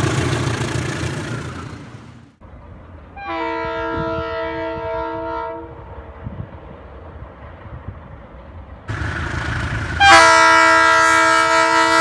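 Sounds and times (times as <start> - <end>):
train locomotive rumble: 0.0 - 12.0.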